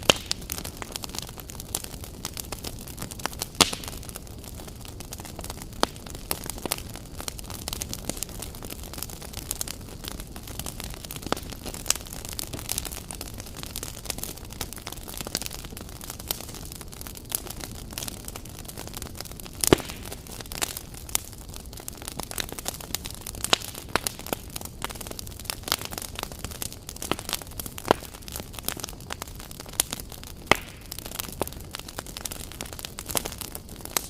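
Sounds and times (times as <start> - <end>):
campfire crackling and popping: 0.0 - 34.0
steady fire hiss: 0.0 - 34.0.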